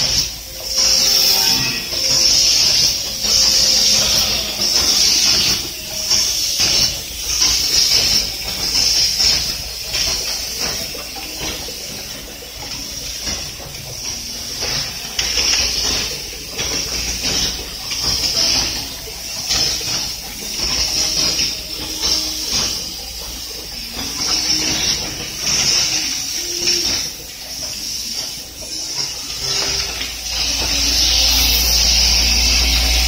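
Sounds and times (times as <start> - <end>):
machine clicking and clattering: 0.0 - 33.0
pneumatic air hiss bursts: 0.0 - 33.0.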